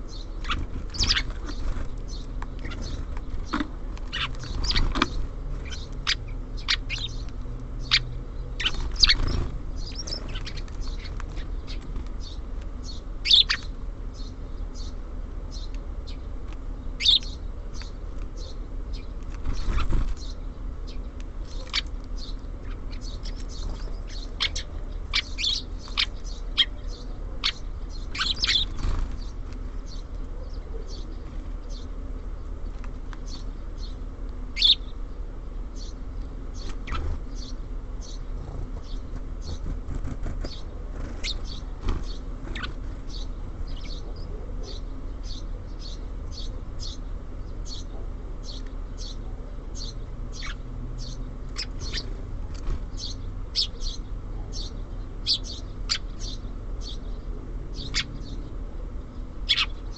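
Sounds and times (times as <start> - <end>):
songbirds chirping: 0.0 - 59.9
steady low hum: 0.0 - 59.9.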